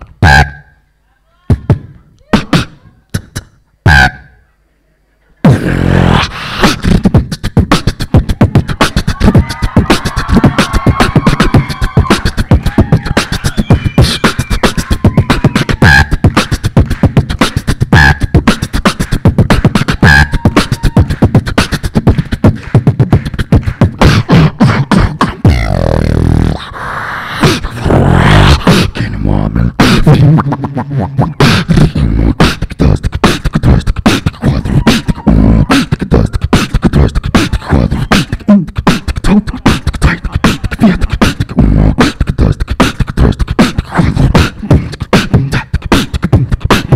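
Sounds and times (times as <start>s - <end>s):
beatboxing into a microphone: 0.0s - 0.8s, 1.5s - 4.4s, 5.4s - 46.9s
held low vocal bass tones: 1.5s - 4.6s, 5.4s - 46.9s.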